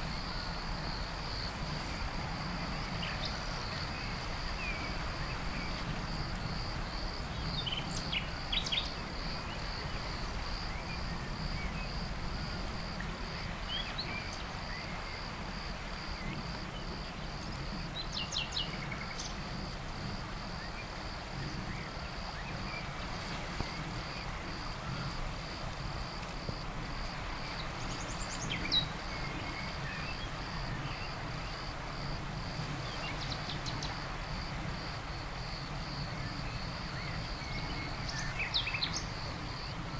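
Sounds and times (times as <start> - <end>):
steady low hiss: 0.0 - 39.9.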